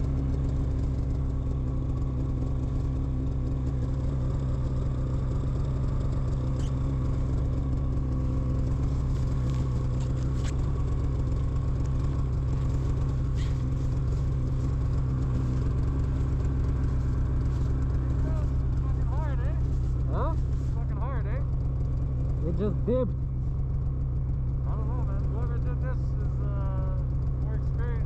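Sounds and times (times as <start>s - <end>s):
snowmobile engine idling: 0.0s - 28.0s.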